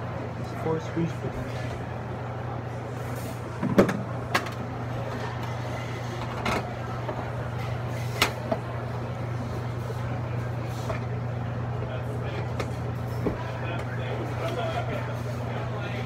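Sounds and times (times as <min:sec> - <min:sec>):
refrigeration unit humming: 0:00.0 - 0:16.0.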